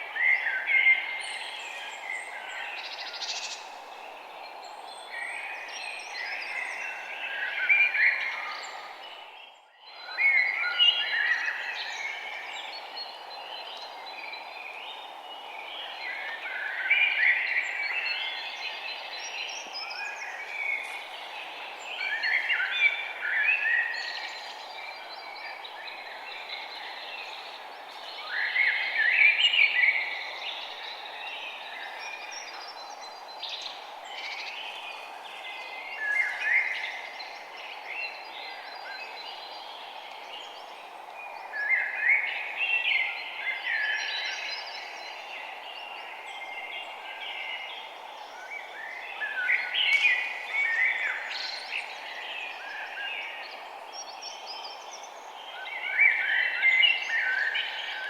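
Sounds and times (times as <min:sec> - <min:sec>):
songbirds chirping and warbling: 0:00.0 - 0:58.0
steady background hiss: 0:00.0 - 0:58.0.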